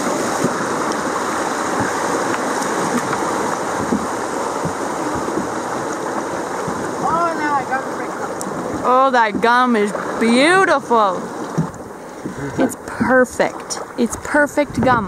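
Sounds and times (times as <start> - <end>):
creek water rushing: 0.0 - 14.9.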